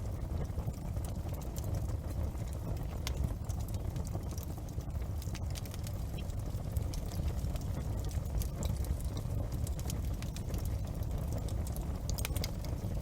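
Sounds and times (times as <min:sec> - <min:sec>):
bonfire flames rumbling: 0:00.0 - 0:13.0
fire crackling and popping: 0:00.0 - 0:13.0.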